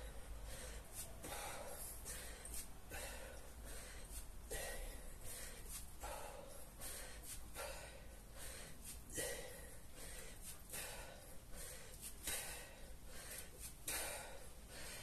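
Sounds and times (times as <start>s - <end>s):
man breathing hard: 0.0s - 15.0s.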